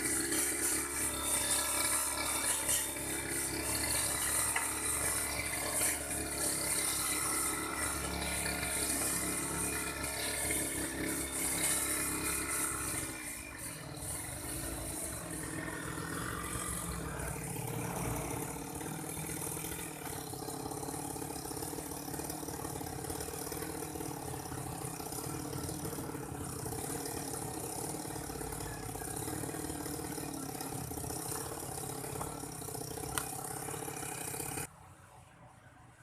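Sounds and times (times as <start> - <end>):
grass cutter engine running: 0.0 - 34.7.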